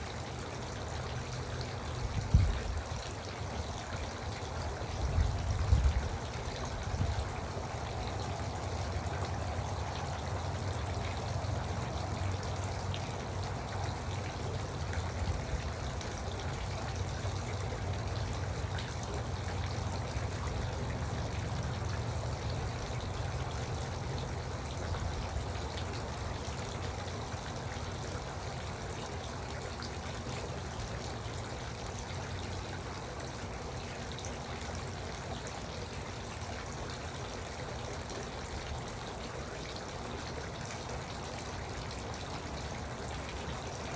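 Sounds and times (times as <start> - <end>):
water fountain trickling: 0.0 - 43.9.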